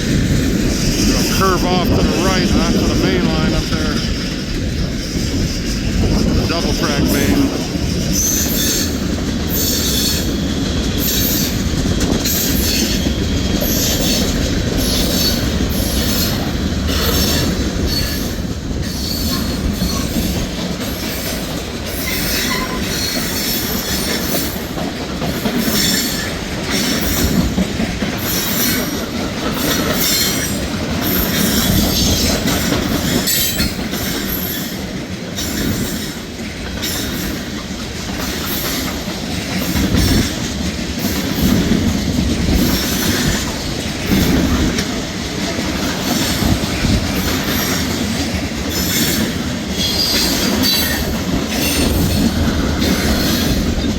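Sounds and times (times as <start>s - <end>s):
freight train cars rolling: 0.0s - 53.9s
wheels clacking over rail joints: 7.1s - 53.9s.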